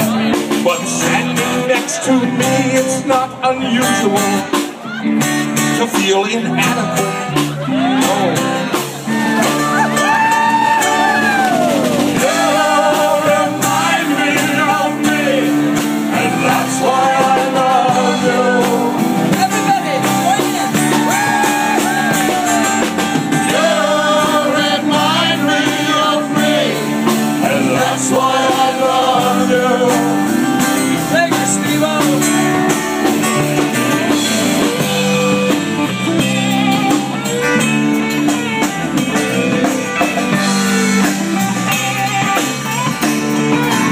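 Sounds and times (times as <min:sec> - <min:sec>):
live country band playing: 0:00.0 - 0:43.9
sliding lap steel guitar lead: 0:07.6 - 0:43.9.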